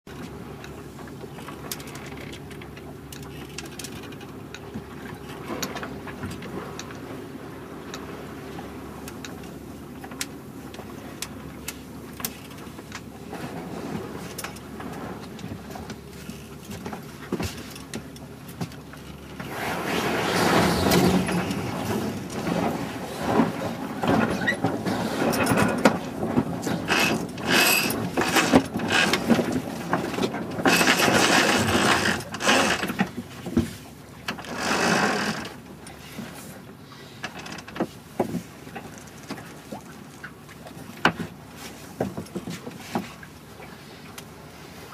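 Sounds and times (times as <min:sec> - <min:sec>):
wind and water noise: 0:00.0 - 0:44.9.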